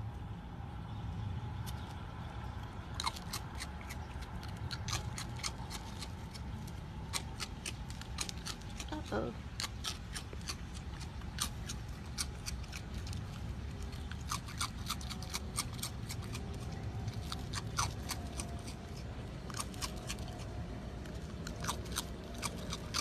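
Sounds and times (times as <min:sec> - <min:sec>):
low steady rumble: 0:00.0 - 0:23.0
raccoon crunching cereal: 0:01.6 - 0:23.0.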